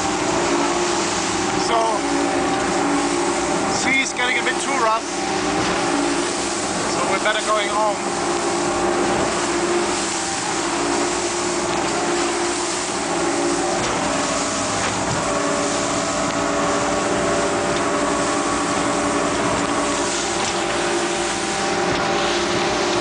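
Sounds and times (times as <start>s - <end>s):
motorboat engine running: 0.0s - 23.0s
wind and water rushing: 0.0s - 23.0s.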